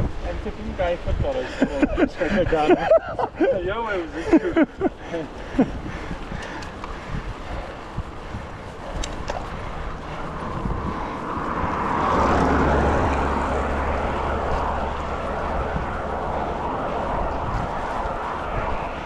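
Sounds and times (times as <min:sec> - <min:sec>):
vehicle passing on road: 0:00.0 - 0:19.0.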